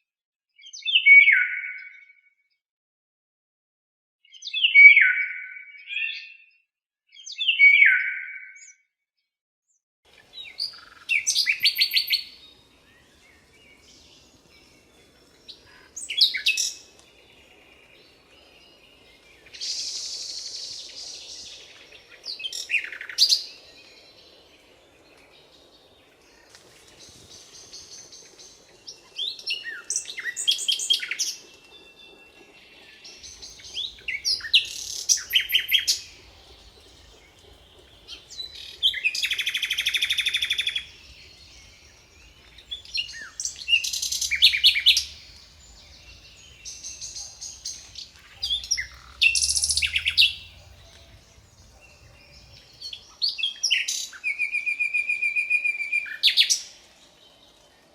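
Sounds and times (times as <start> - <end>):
quiet bird calls: 10.1 - 56.8
songbirds singing: 10.1 - 57.9.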